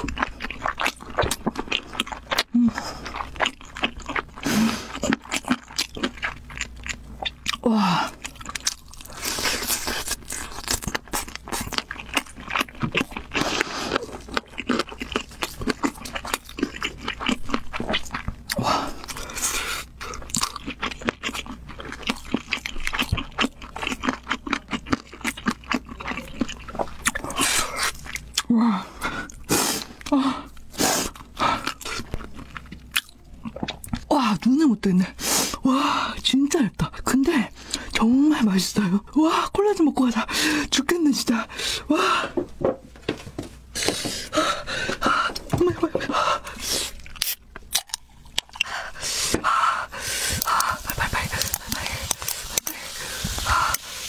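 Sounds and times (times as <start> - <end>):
crunching and chewing: 0.0 - 34.1, 43.6 - 54.0.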